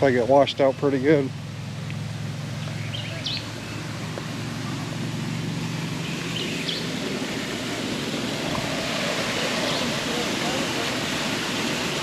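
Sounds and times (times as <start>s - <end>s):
engine humming: 0.0s - 12.0s
outdoor noise: 0.0s - 12.0s.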